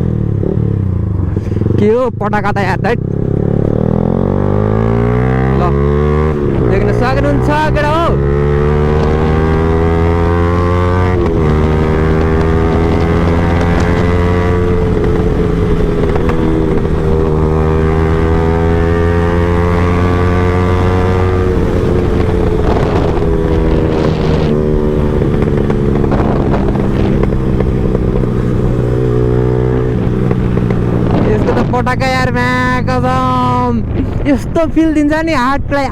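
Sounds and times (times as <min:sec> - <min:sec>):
motorcycle engine revving: 0:00.0 - 0:34.3
exhaust popping: 0:02.5 - 0:35.9.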